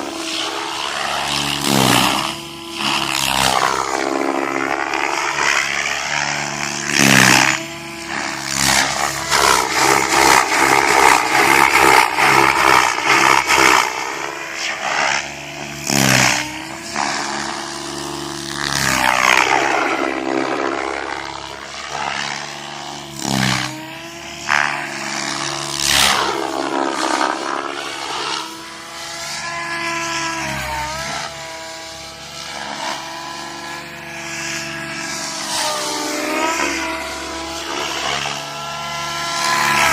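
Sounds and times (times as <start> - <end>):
rc helicopter rotor whine: 0.0 - 39.9.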